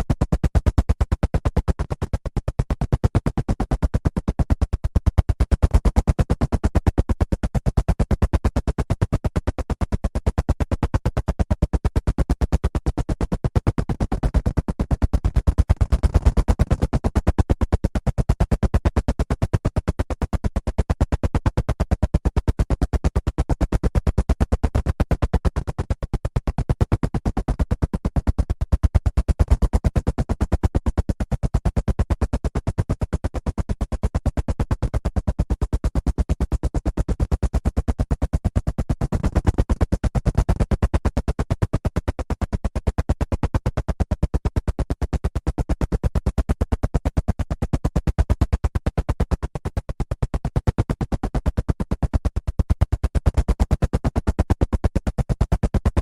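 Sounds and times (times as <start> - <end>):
helicopter rotor blades chopping: 0.0 - 56.0.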